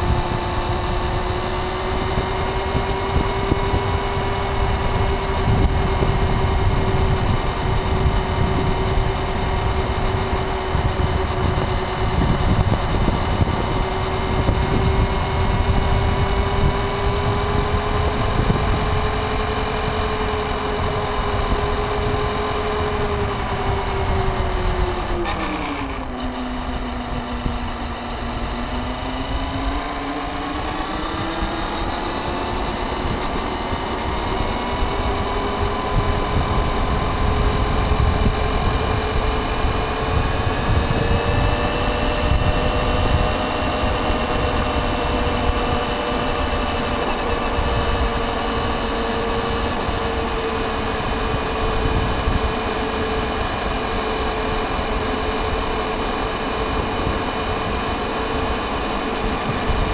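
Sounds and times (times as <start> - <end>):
rumble of tyres and wind: 0.0 - 59.9
toy car motor whine: 0.0 - 59.9.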